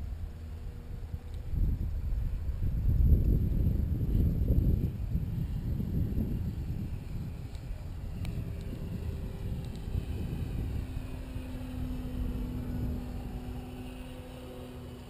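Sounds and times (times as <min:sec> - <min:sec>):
model plane propeller hum: 0:00.0 - 0:15.0
wind rumbling on microphone: 0:00.0 - 0:15.0.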